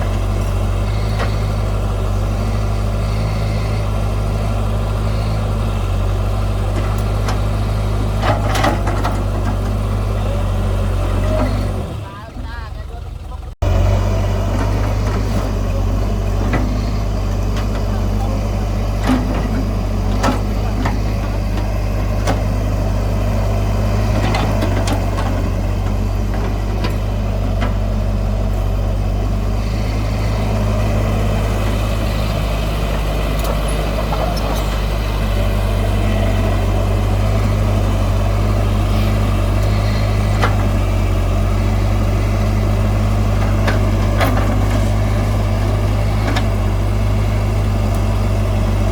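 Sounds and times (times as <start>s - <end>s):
heavy diesel machine engine droning: 0.0s - 48.9s.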